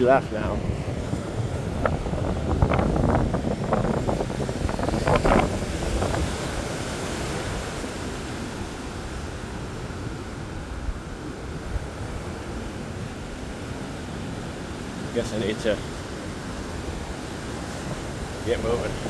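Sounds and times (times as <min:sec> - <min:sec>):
surf: 0:00.0 - 0:19.0
wind buffeting microphone: 0:00.0 - 0:19.0.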